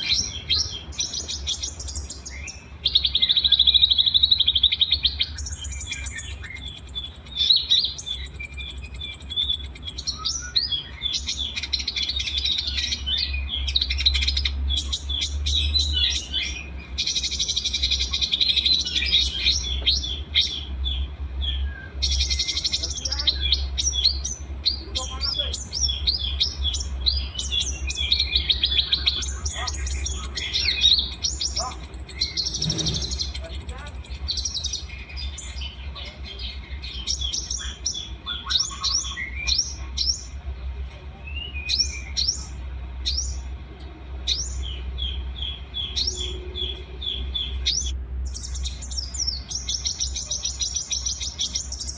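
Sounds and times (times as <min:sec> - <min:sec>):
songbirds chirping and trilling: 0:00.0 - 0:51.9
steady low hum: 0:00.0 - 0:51.9.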